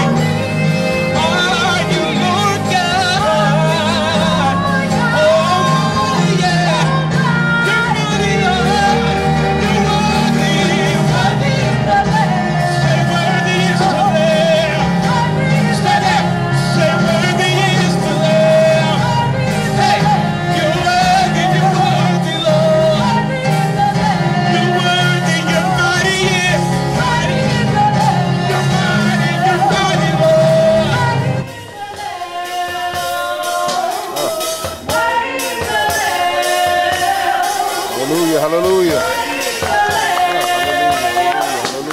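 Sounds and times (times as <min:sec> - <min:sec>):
gospel band playing: 0:00.0 - 0:41.9
people singing: 0:00.0 - 0:41.9.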